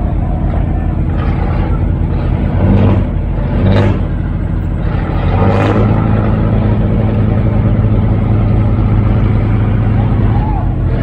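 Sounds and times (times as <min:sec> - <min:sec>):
boat diesel engine running: 0:00.0 - 0:11.0.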